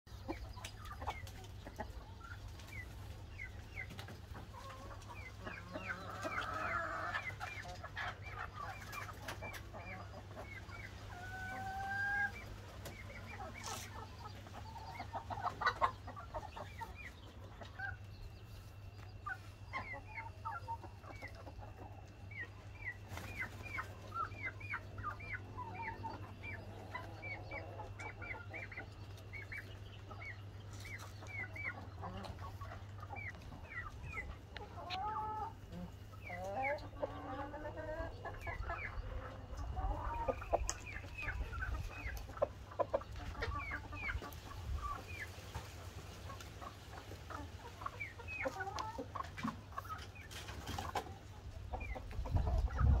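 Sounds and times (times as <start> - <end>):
chickens clucking and calling: 0.1 - 53.0.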